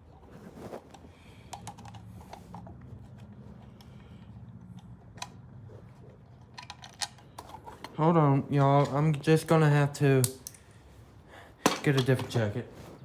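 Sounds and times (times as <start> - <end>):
handling noises: 0.0 - 13.0.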